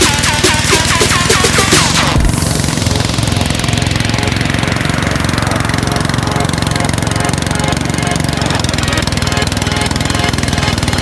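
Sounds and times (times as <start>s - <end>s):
thresher engine rattling: 0.0s - 11.0s.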